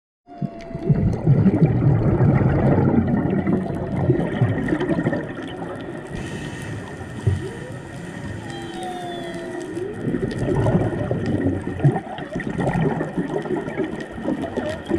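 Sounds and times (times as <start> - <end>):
regulator bubbles gurgling: 0.3 - 14.9
whale song: 0.3 - 14.9.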